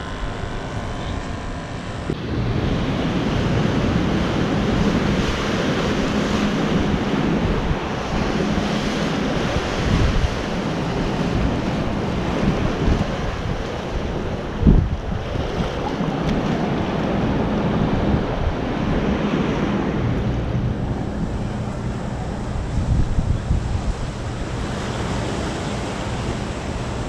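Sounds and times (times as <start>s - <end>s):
ocean surf against pilings: 0.0s - 27.0s
wind buffeting microphone: 0.0s - 27.0s.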